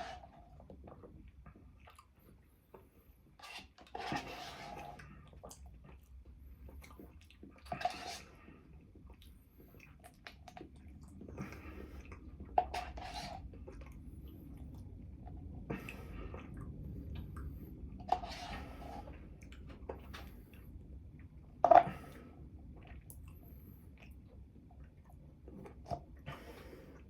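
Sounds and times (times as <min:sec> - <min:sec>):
chewing and wet mouth noises: 0:00.5 - 0:03.0, 0:04.8 - 0:12.6, 0:13.4 - 0:26.4.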